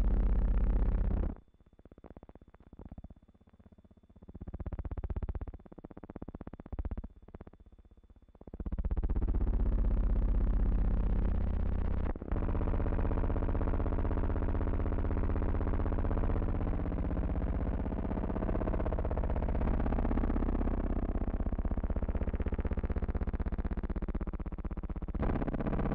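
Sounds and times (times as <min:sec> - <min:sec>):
low buzzing hum: 0:00.0 - 0:25.9.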